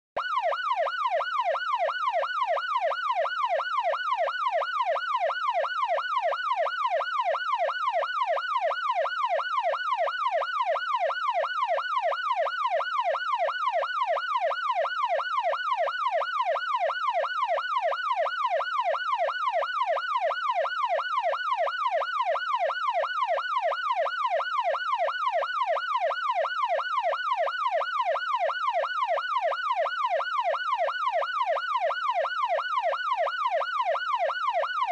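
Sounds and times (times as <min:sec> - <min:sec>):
electronic police siren yelping: 0:00.2 - 0:34.9.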